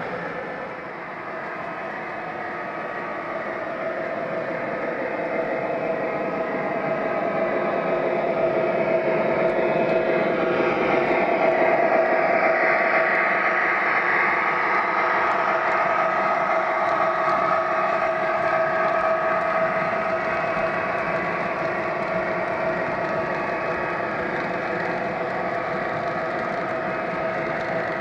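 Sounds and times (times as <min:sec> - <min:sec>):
model train rolling on track: 0:00.0 - 0:28.0.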